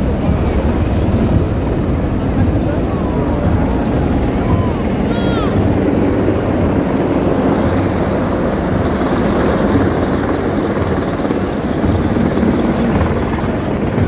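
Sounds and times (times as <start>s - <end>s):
tracked vehicles rumbling past: 0.0s - 14.0s.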